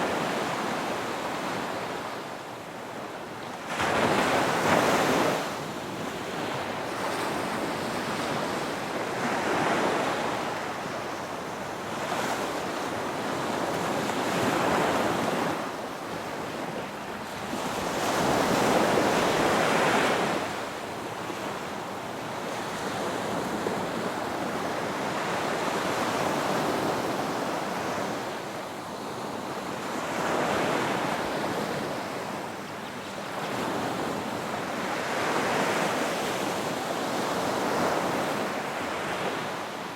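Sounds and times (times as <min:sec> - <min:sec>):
ocean waves rolling in: 0:00.0 - 0:39.9.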